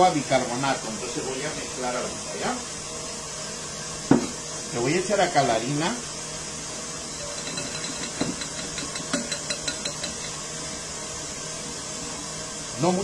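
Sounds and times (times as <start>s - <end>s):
electric mixer motor running: 0.0s - 13.0s.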